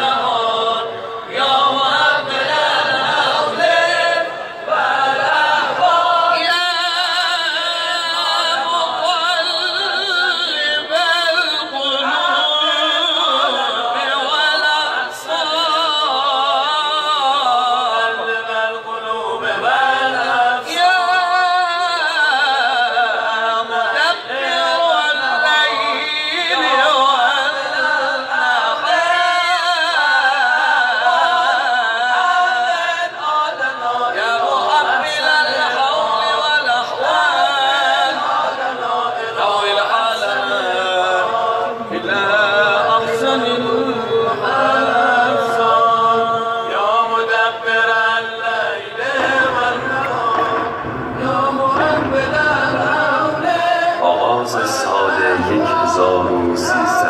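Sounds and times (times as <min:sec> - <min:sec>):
voices singing a chant: 0:00.0 - 0:57.0.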